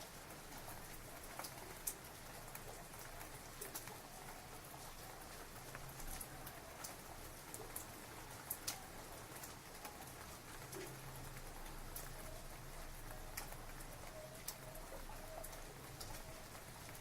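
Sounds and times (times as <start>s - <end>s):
raindrops ticking on hard surface: 0.0s - 17.0s
steady rain falling: 0.0s - 17.0s.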